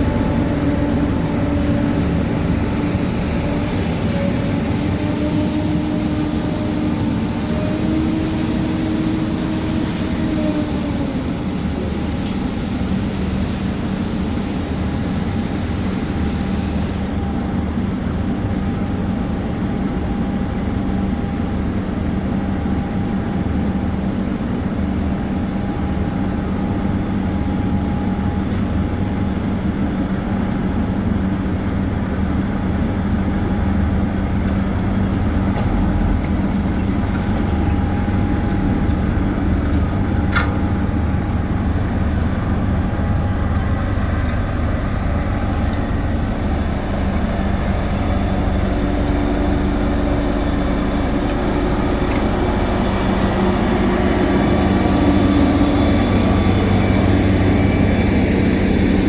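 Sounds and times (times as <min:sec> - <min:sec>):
diesel construction machinery running: 0:00.0 - 0:59.0.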